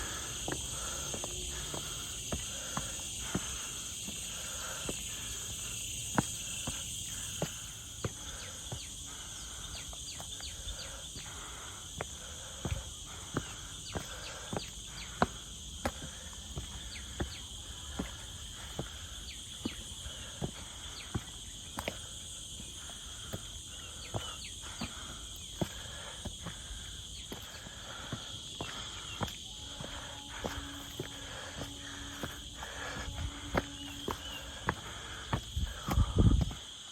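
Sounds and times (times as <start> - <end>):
footsteps on a trail: 0.0 - 36.9
insects droning: 0.0 - 36.9.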